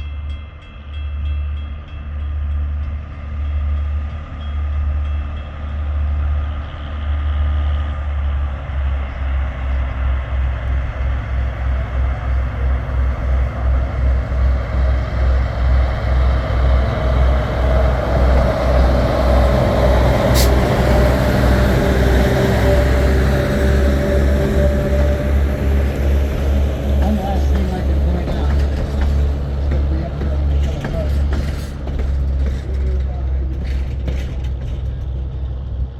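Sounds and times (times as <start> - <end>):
small rail vehicle engine running: 0.0 - 35.9.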